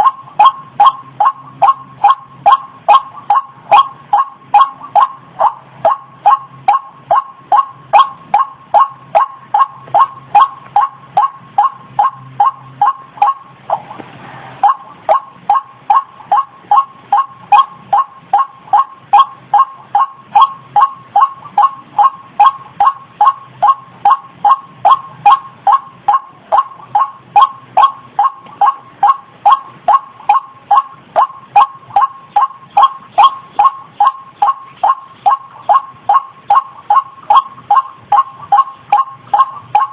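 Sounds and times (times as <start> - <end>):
waterhen call repeated: 0.0 - 14.0, 14.6 - 39.9.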